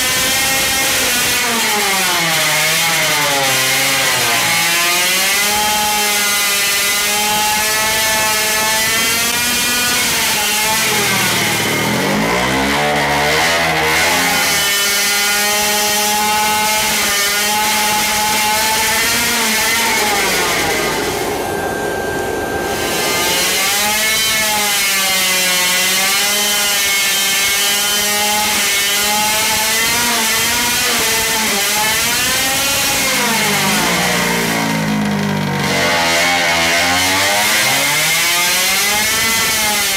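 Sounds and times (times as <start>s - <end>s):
two-stroke engine running hard: 2.6s - 25.0s, 25.7s - 39.9s.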